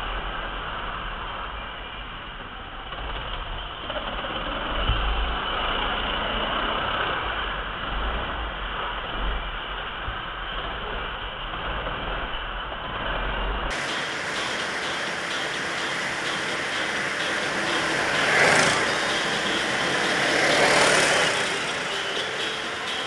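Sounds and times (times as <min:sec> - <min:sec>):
kart engine rattling: 0:02.6 - 0:23.0.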